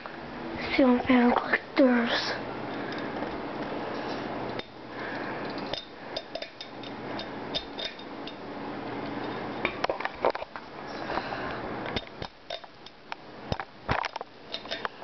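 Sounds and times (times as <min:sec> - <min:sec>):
ceiling fan air rush: 0:00.0 - 0:15.0.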